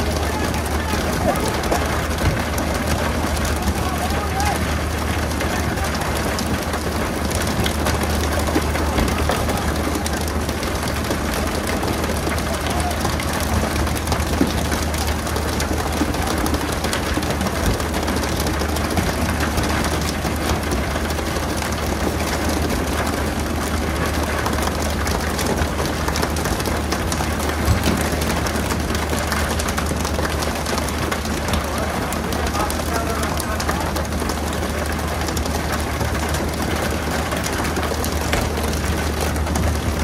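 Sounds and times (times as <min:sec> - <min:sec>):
boat engine humming: 0:00.0 - 0:40.0
continuous rushing noise: 0:00.0 - 0:40.0.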